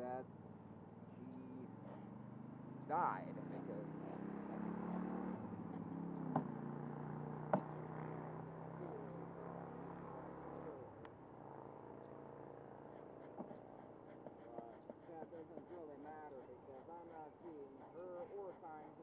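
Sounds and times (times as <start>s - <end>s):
honeybees humming: 0.0s - 19.0s.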